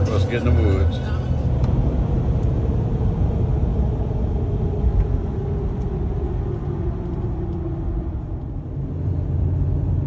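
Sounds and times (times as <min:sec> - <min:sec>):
vehicle driving rumble: 0:00.0 - 0:10.0.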